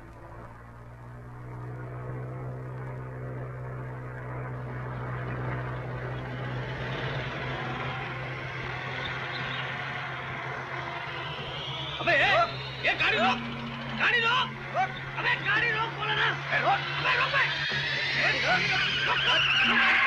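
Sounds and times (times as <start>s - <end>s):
car engines running: 0.0s - 20.0s.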